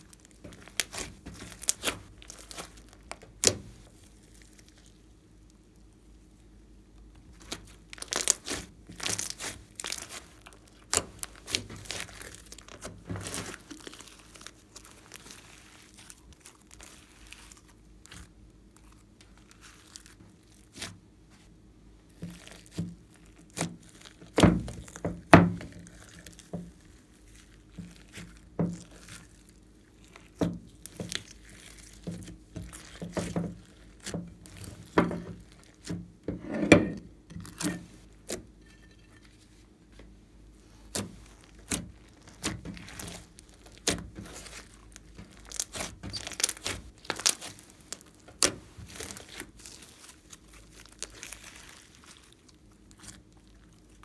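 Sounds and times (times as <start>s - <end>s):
slime crackling and popping: 0.0s - 5.9s, 7.3s - 21.0s, 22.1s - 36.1s, 40.6s - 54.0s.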